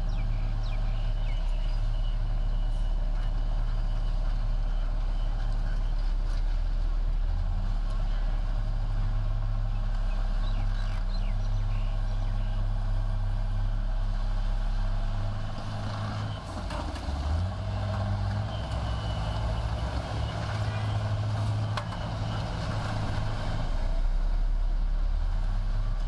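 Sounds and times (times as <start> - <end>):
heavy diesel engine under load: 0.0 - 26.0.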